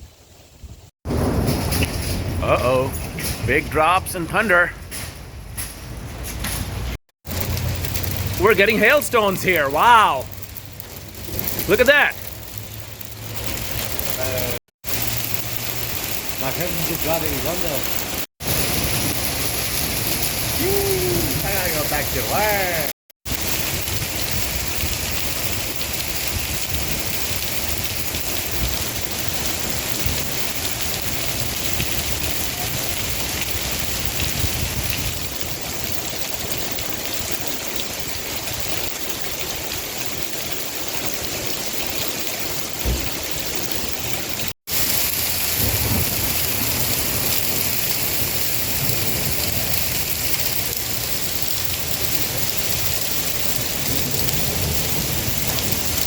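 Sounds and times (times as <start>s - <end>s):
heavy rain falling: 0.1s - 4.7s, 5.6s - 56.0s.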